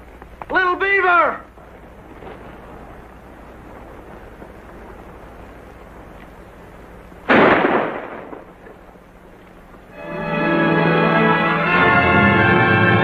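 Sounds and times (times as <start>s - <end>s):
faint film soundtrack hiss: 0.0s - 13.0s.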